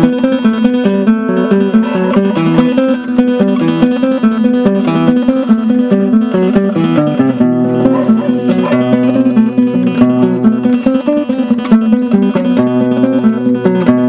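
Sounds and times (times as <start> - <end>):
fingerstyle classical guitar: 0.0 - 14.0.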